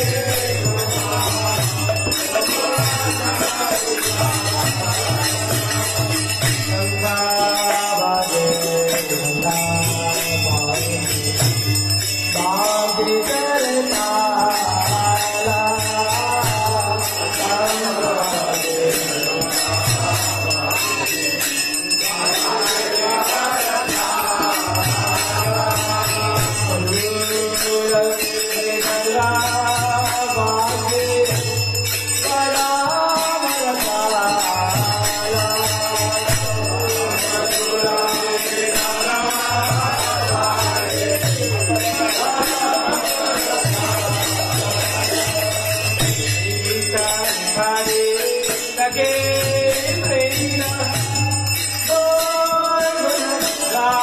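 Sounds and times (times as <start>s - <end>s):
devotional music: 0.0s - 54.0s
hand bell ringing: 0.0s - 54.0s.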